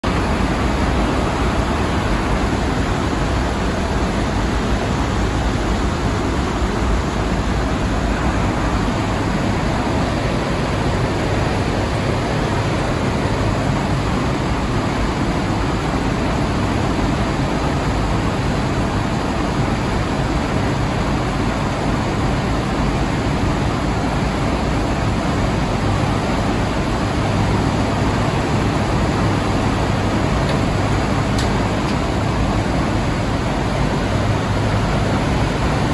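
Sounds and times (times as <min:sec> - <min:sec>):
turboprop engine drone: 0:00.0 - 0:35.9.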